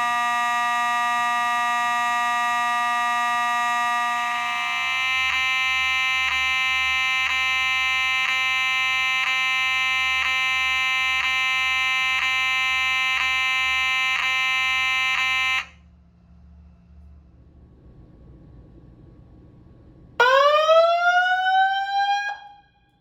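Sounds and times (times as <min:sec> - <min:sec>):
fire alarm horn buzzing: 0:00.0 - 0:15.8, 0:20.2 - 0:22.9.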